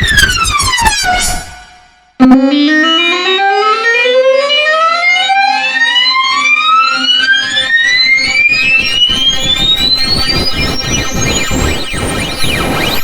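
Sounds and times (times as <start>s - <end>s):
synthesized tone sliding upward: 0.0s - 13.0s.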